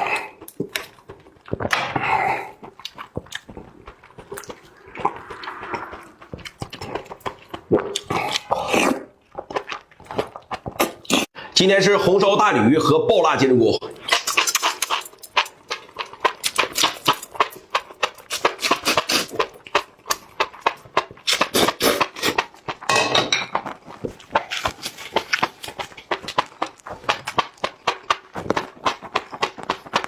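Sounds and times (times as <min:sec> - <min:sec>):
mouth chewing food: 0:00.0 - 0:11.4, 0:13.8 - 0:22.9, 0:23.6 - 0:30.0.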